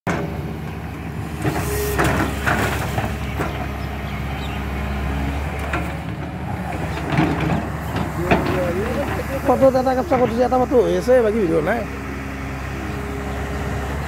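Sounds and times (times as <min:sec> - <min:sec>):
excavator diesel engine running: 0:00.1 - 0:14.0.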